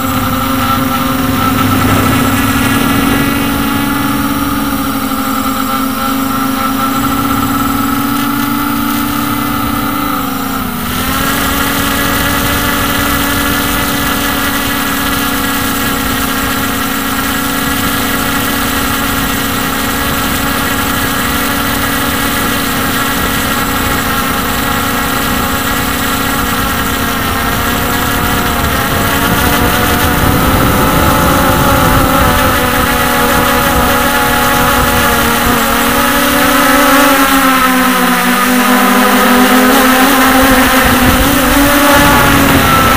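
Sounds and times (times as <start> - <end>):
drone motors and propellers whining: 0.0 - 42.9.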